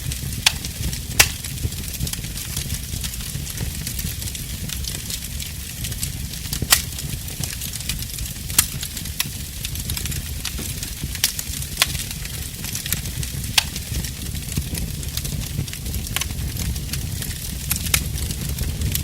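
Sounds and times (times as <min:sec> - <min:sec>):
fire crackling and popping: 0:00.0 - 0:19.0
fire rumbling and hissing: 0:00.0 - 0:19.0.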